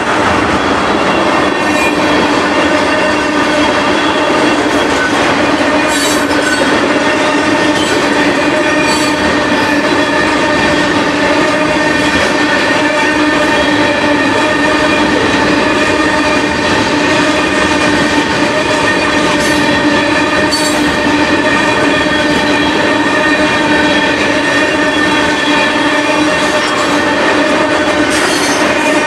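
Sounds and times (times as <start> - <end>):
freight train wheels rumbling: 0.0 - 29.0
wheels squealing whine: 0.0 - 29.0.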